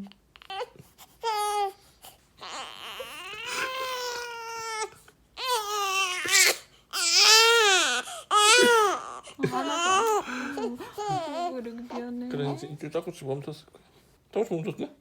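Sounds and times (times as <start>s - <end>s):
newborn baby crying: 0.4s - 12.8s.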